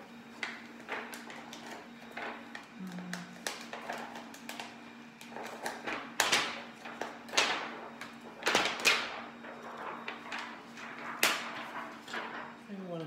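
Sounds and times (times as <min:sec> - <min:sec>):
plastic sheet crinkling and popping: 0:00.3 - 0:12.6.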